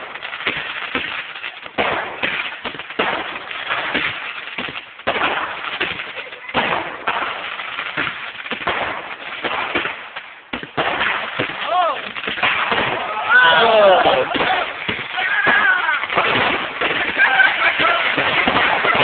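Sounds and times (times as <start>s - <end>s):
fireworks bangs and crackles: 0.0s - 19.0s
heavy firework booms: 0.0s - 19.0s.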